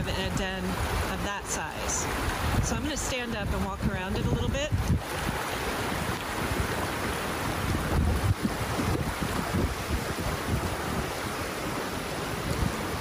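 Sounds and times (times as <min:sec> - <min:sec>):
stream rushing over rocks: 0:00.0 - 0:13.0
wind buffeting microphone: 0:00.0 - 0:13.0.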